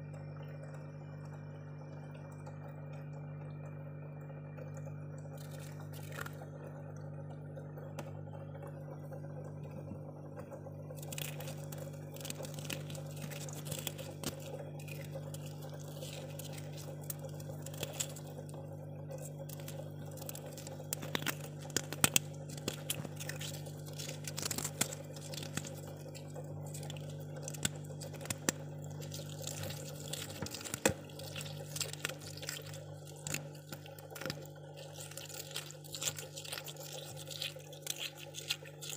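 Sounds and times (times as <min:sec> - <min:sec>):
freezer humming: 0:00.0 - 0:38.9
small crackles and clicks: 0:04.6 - 0:06.6, 0:07.8 - 0:38.9.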